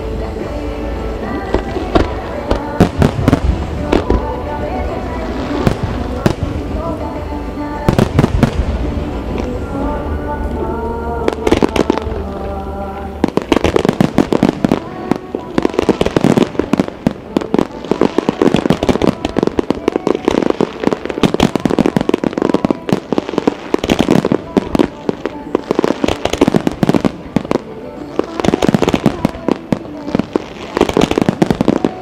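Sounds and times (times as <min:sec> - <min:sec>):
music: 0:00.0 - 0:32.0
fireworks bangs and crackles: 0:01.1 - 0:09.8, 0:11.2 - 0:32.0.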